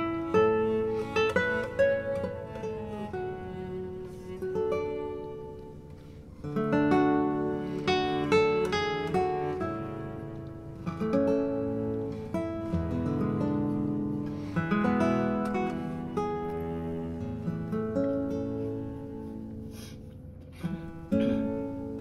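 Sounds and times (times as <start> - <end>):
acoustic guitar plucked: 0.0 - 22.0.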